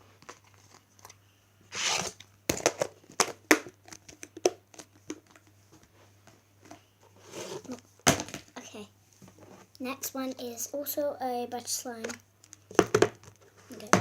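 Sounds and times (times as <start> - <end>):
slime rustling: 0.0 - 14.0.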